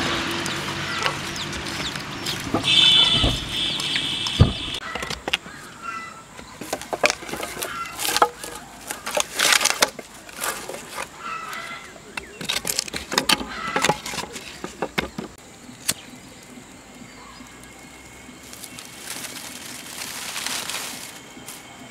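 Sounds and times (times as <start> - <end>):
firewood sticks knocking and cracking: 0.0 - 5.6, 6.4 - 16.1, 18.4 - 21.9.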